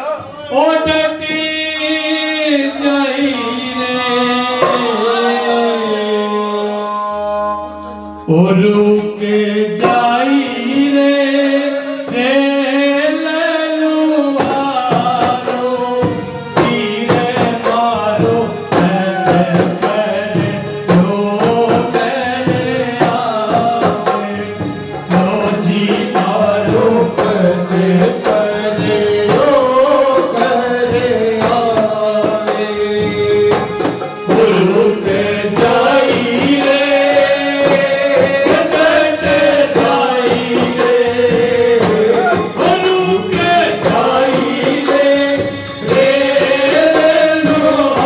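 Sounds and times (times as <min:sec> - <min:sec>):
person singing: 0:00.0 - 0:48.0.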